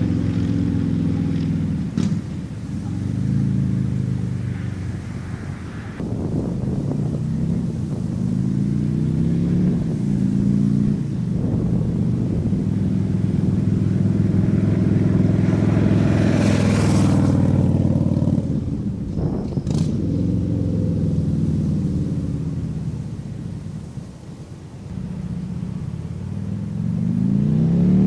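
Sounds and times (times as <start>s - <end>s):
motorcycle accelerating and shifting: 0.0s - 28.0s.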